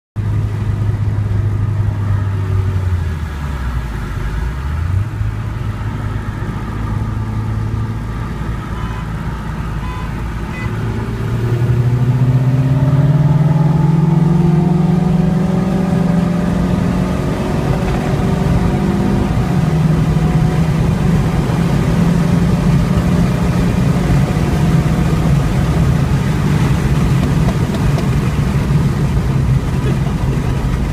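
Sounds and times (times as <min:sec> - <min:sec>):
car engine accelerating: 0:00.2 - 0:30.9.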